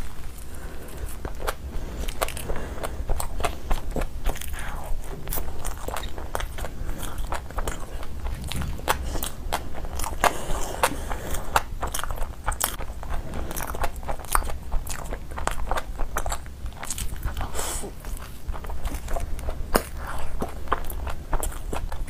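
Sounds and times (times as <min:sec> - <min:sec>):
close chewing crunches: 0:00.0 - 0:22.0.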